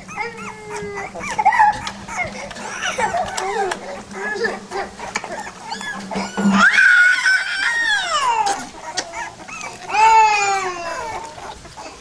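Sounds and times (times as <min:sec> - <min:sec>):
puppy whining: 0:00.0 - 0:12.0.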